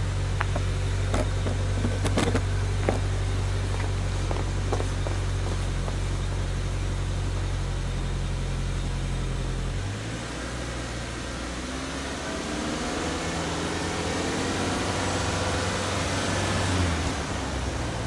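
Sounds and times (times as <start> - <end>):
car engine idling: 0.0 - 18.0
car engine revving: 0.0 - 18.0.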